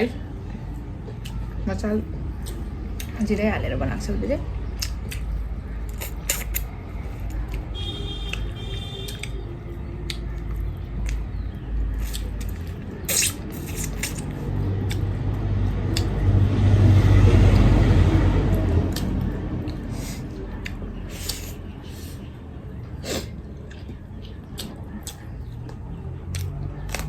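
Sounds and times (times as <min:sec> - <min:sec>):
chewing and squishing food: 0:00.1 - 0:03.4, 0:04.0 - 0:27.0.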